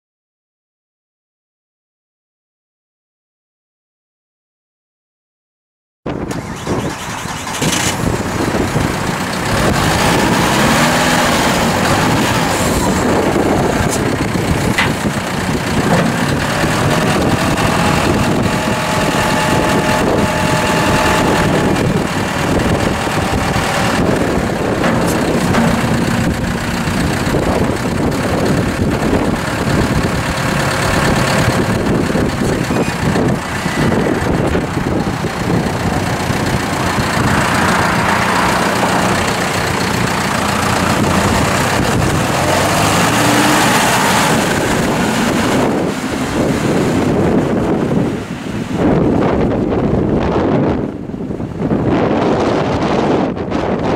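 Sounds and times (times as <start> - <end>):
tractor diesel engine running: 6.1 - 53.9.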